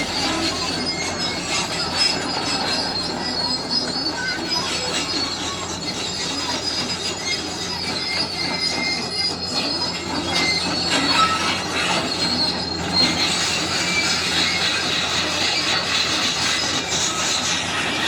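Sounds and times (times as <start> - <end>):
excavator engine hum: 0.0 - 18.0
metallic squeals and scraping: 0.0 - 18.0.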